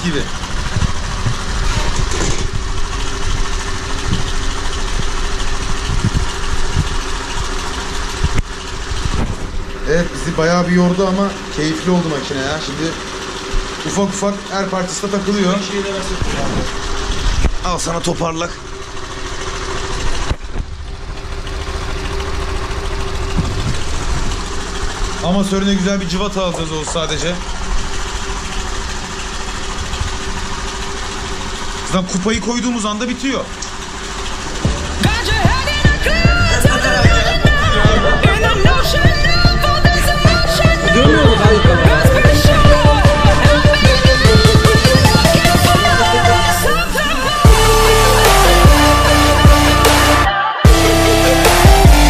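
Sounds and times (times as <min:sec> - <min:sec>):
scooter engine idling: 0:00.0 - 0:52.0.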